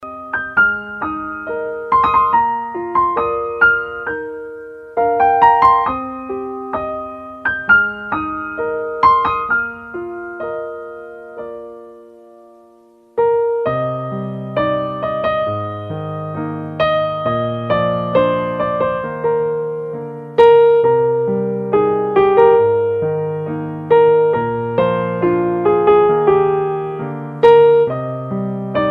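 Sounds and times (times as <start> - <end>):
slow piano melody: 0.0 - 28.9.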